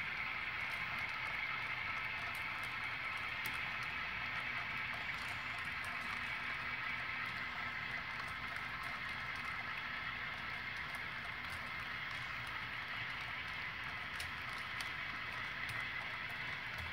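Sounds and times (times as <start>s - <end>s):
model train wheels rolling on track: 0.0s - 16.9s.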